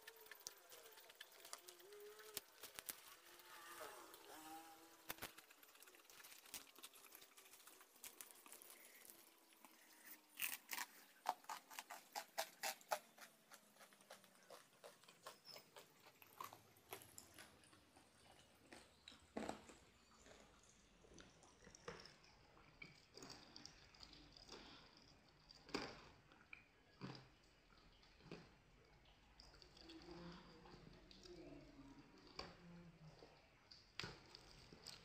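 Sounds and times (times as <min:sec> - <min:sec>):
chewing crispy fried food: 0:00.0 - 0:35.0.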